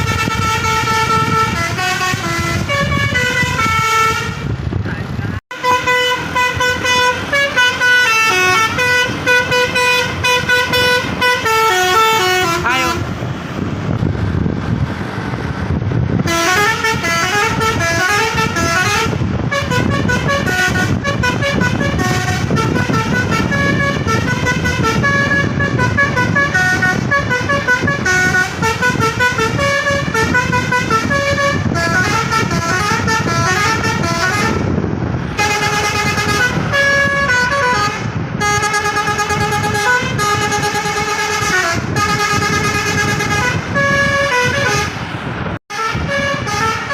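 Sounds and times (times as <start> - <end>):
multi-tone bus horn melodies: 0.0 - 4.6, 5.5 - 13.4, 16.1 - 46.9
steady low rumble: 0.0 - 46.9.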